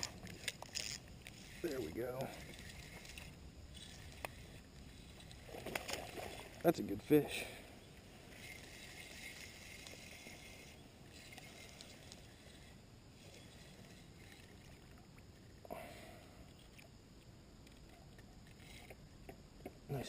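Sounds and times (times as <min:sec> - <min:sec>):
faint water and boat noise: 0:00.0 - 0:20.0.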